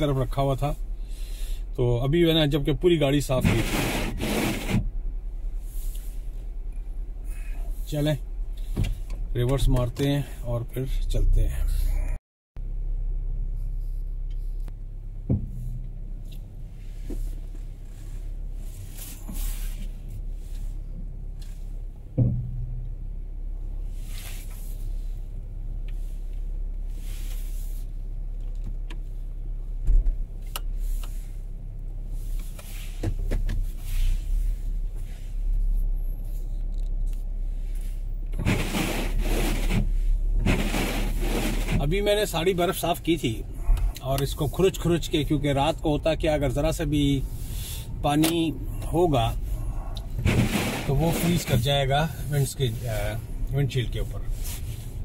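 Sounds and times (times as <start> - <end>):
car engine humming: 0.0 - 55.0.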